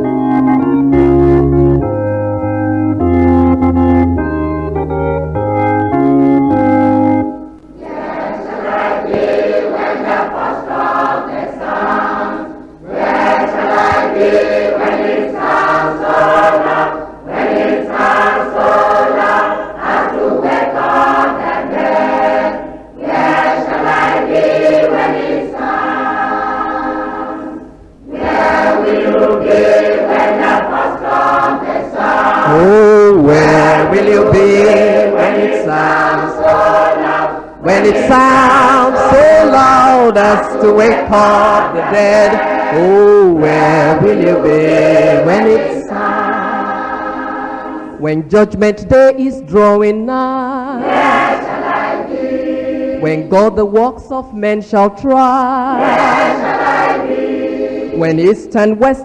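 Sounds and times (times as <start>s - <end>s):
organ chords: 0.0s - 59.0s
choir singing a hymn: 6.4s - 49.0s, 49.6s - 53.7s, 55.2s - 58.6s.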